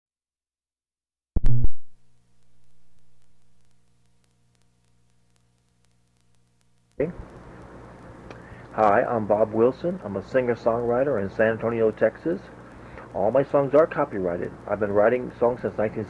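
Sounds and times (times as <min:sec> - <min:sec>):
faint electrical hum: 0:02.0 - 0:16.0.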